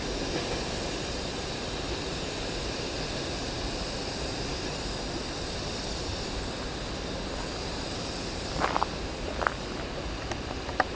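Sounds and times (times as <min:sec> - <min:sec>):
outdoor hiss: 0:00.0 - 0:10.9.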